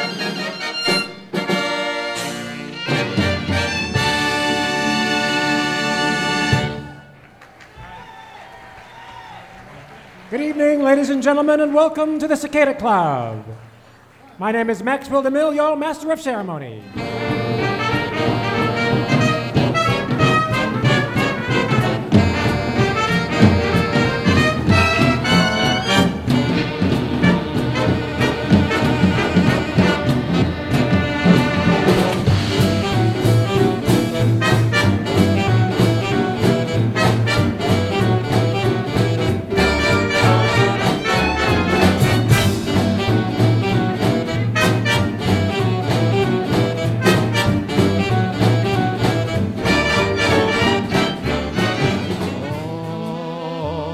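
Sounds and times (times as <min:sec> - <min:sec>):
big band dance music: 0:00.0 - 0:53.9.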